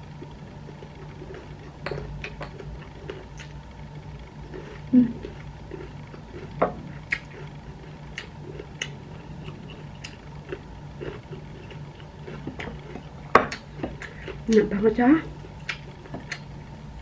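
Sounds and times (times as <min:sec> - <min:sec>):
low hum: 0:00.0 - 0:17.0
chewing and mouth smacks: 0:00.2 - 0:03.6, 0:04.5 - 0:14.5, 0:15.5 - 0:16.5.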